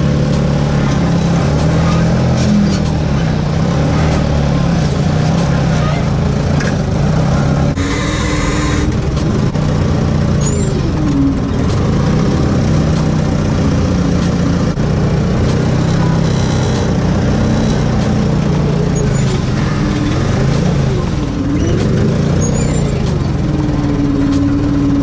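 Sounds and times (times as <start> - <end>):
forklift engine running: 0.0 - 25.0.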